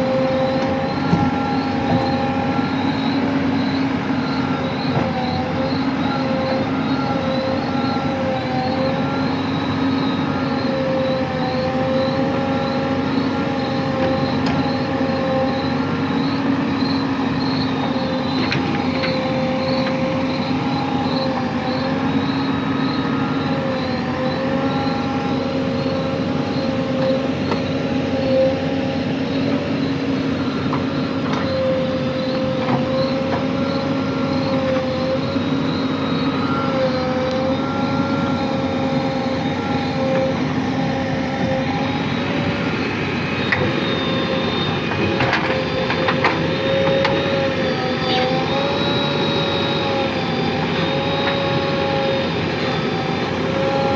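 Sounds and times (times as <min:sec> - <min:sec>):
backhoe diesel engine running: 0:00.0 - 0:53.9.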